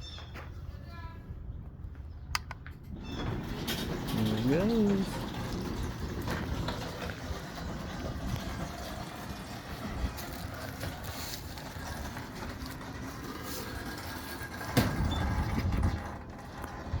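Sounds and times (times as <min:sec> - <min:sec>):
garage door opener rumbling: 0:02.4 - 0:17.0.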